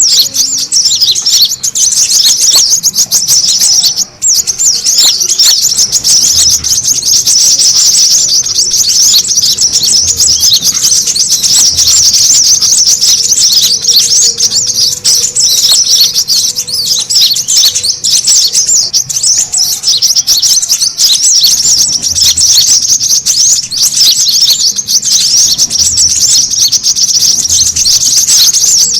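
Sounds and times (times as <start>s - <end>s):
birds chirping and twittering: 0.0s - 28.9s.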